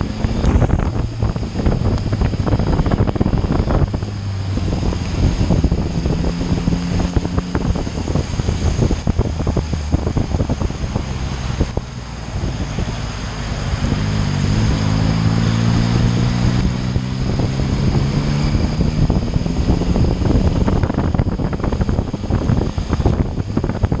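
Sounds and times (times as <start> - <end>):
motorcycle engine hum: 0.0 - 24.0
wind buffeting microphone: 0.0 - 24.0.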